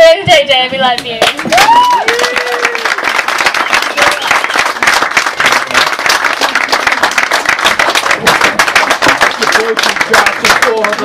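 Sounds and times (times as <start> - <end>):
crowd clapping: 1.0 - 11.0.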